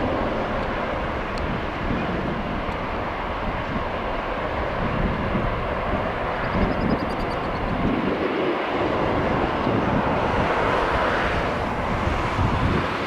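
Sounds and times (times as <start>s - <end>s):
jet engine roar: 0.0s - 13.0s
wind on microphone: 0.0s - 13.0s.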